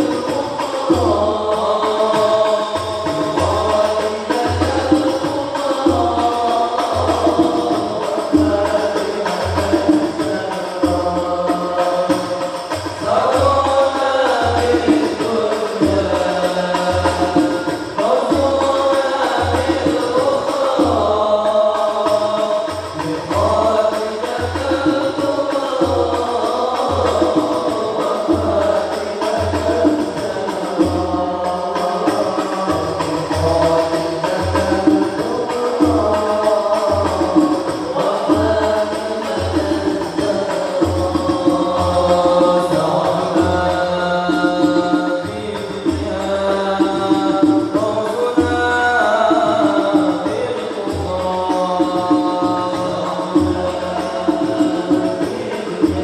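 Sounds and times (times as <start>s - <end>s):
frame drums beating: 0.0s - 56.0s
men singing devotional song: 0.0s - 56.0s.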